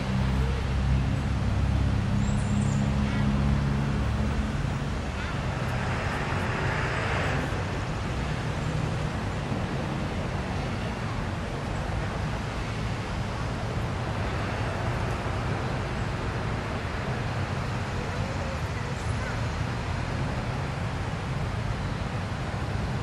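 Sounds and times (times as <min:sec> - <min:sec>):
traffic noise: 0:00.0 - 0:23.0.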